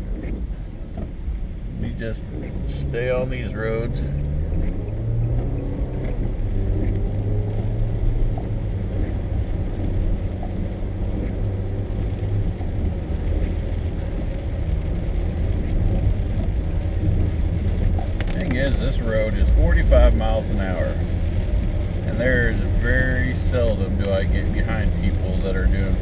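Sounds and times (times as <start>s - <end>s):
car engine and tyres on wet road: 0.0s - 26.0s.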